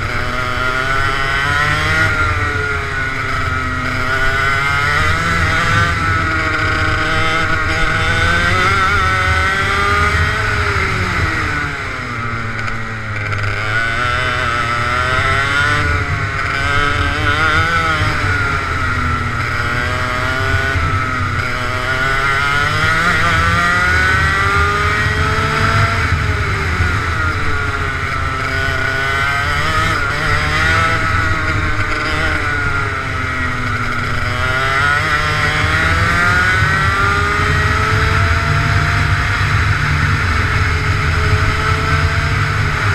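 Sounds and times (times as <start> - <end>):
kart engine revving: 0.0 - 42.9.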